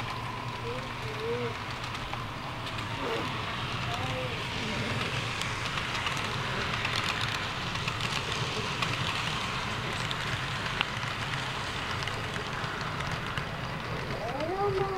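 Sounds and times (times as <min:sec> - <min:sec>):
tiny clicks crackling: 0:00.0 - 0:02.9, 0:05.0 - 0:14.9
model train wheels rumbling on rails: 0:00.0 - 0:14.9.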